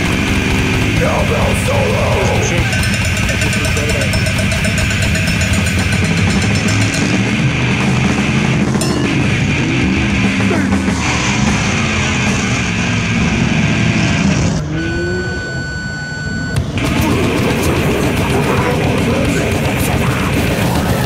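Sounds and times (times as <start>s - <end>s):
heavy rock music: 0.0s - 14.8s, 16.6s - 21.0s.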